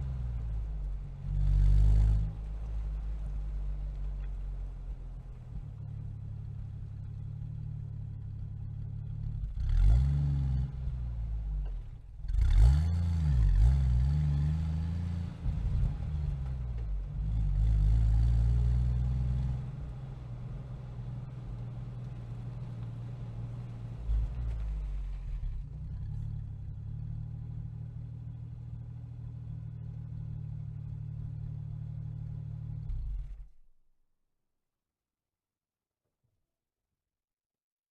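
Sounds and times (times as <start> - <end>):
car engine idling and revving: 0.0 - 33.8.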